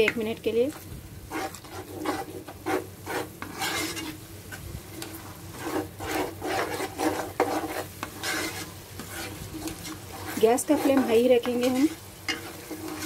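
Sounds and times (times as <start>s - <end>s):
sizzling in oil: 0.0s - 13.0s
spatula scraping a pan: 0.0s - 13.0s.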